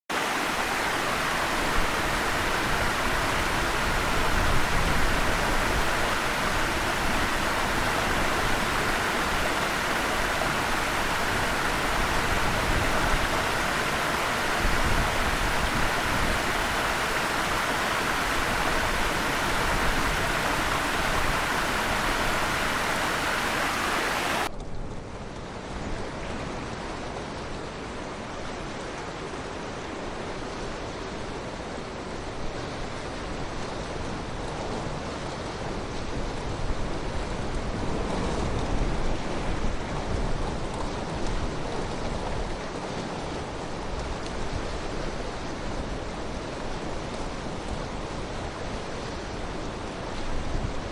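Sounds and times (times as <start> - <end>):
river water rushing: 0.1 - 24.5, 26.7 - 50.9.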